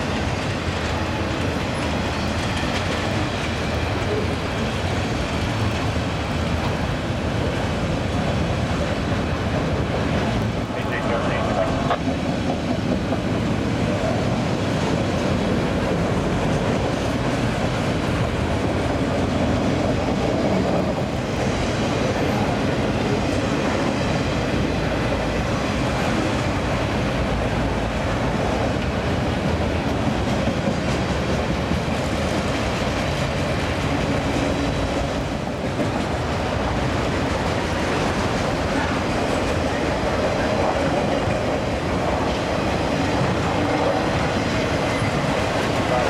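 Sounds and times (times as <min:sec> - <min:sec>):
train wheels clattering on rails: 0:00.0 - 0:46.0.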